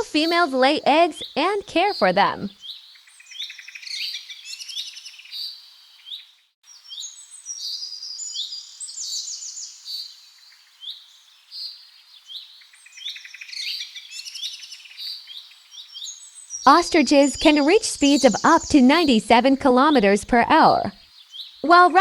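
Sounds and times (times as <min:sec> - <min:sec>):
small birds chirping and trilling: 0:00.2 - 0:22.0.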